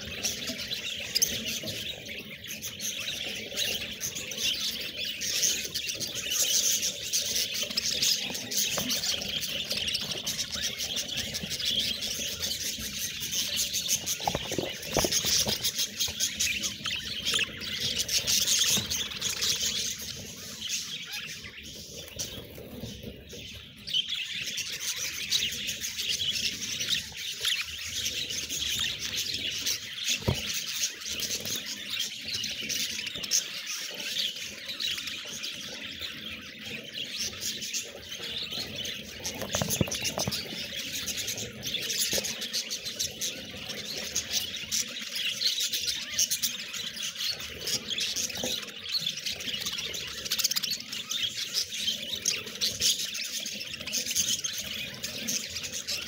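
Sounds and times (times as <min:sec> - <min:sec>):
budgerigars chirping and warbling: 0:00.0 - 0:56.0.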